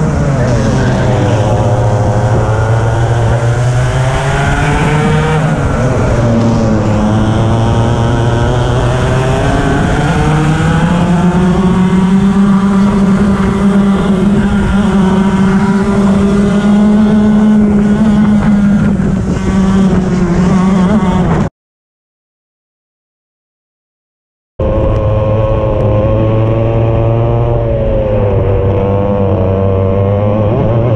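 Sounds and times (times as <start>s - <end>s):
kart engine at high revs: 0.0s - 21.5s, 24.6s - 30.9s.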